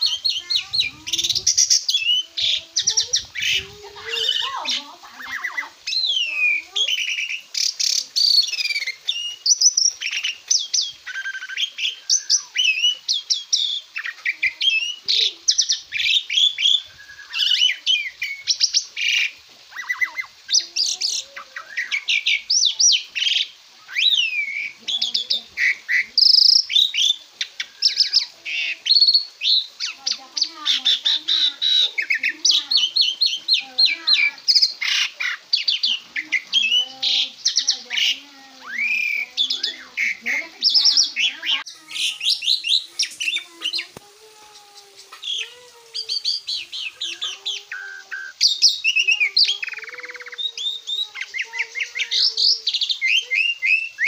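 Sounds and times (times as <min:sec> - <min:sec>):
starling singing: 0:00.0 - 0:54.0.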